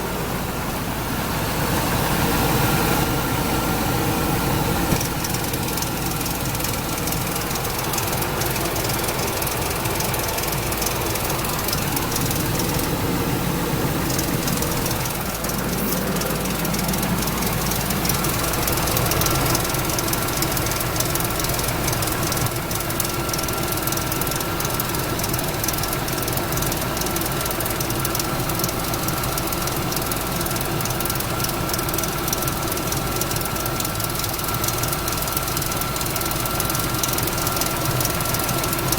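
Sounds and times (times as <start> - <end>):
car engine idling: 0.0 - 38.9
thin steady whine: 3.0 - 38.9
fast slappy engine ticking: 4.9 - 38.9.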